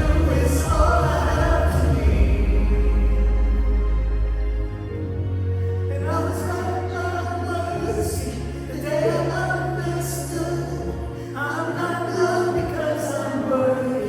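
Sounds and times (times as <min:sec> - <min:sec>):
sustained bass notes: 0:00.0 - 0:14.0
worship band music: 0:00.0 - 0:14.0.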